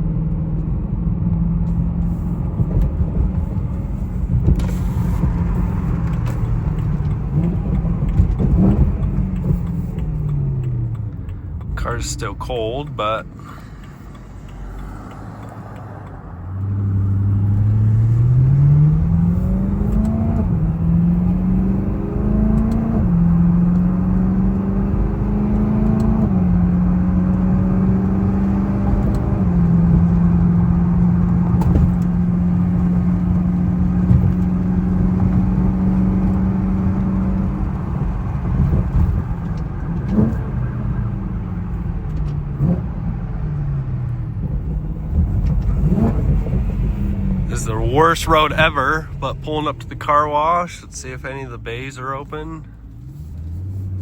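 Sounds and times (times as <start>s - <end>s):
car engine accelerating through gears: 0.0s - 54.0s
road and tyre rumble: 0.0s - 54.0s.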